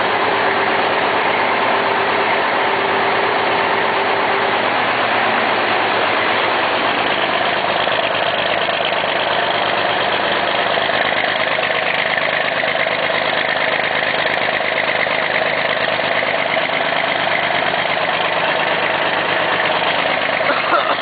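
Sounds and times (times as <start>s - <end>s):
diesel tractor idling: 0.0s - 21.0s.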